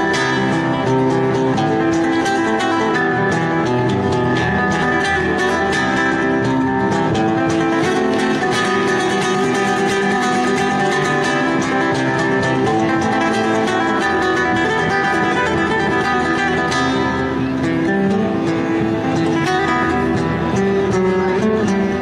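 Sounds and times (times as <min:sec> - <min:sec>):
fast guitar music: 0:00.0 - 0:22.0.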